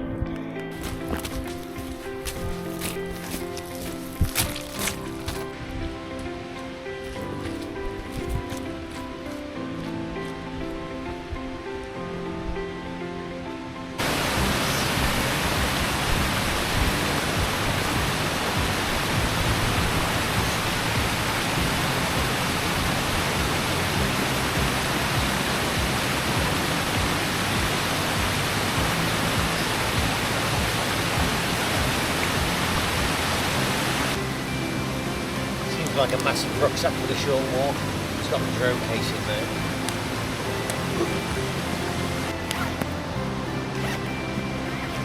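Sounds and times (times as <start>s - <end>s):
faint background music: 0.0s - 45.0s
waterfall rushing: 0.7s - 45.0s.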